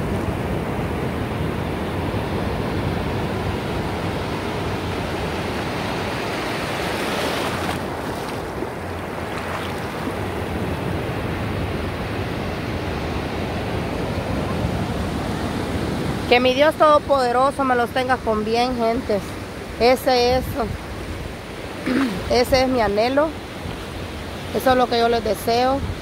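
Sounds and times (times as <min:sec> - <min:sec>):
ocean surf breaking on shore: 0:00.0 - 0:26.0.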